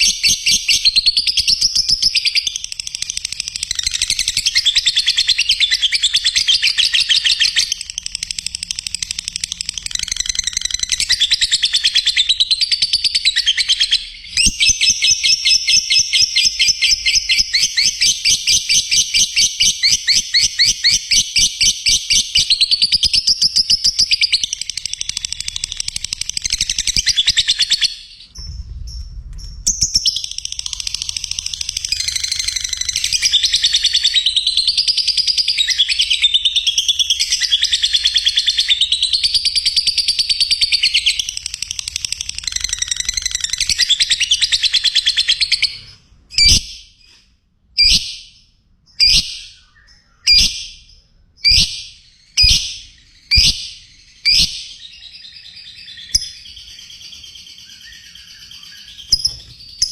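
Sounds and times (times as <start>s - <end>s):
lovebirds chirping: 0.0s - 47.2s, 47.8s - 59.9s.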